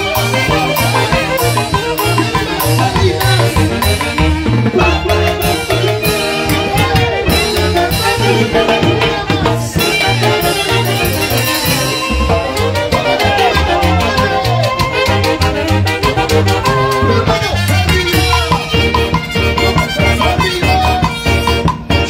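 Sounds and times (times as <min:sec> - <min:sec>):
drum kit: 0:00.0 - 0:22.0
repeating bass beat: 0:00.0 - 0:22.0
saxophones playing melody: 0:00.0 - 0:22.0.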